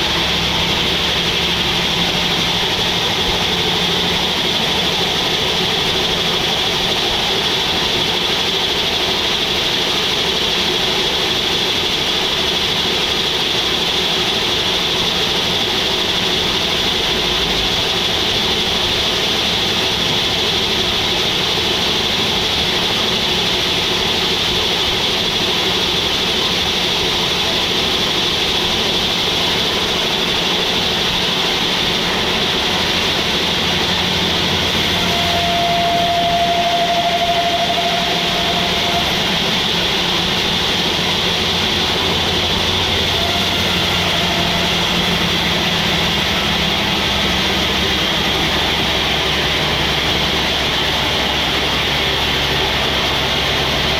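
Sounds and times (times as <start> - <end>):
band sawmill whining drone: 0.0 - 53.9.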